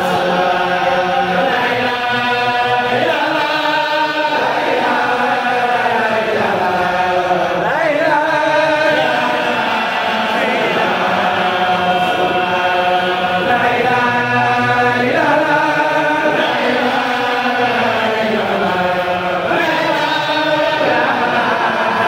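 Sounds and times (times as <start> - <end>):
congregation chanting in unison: 0.0 - 22.0.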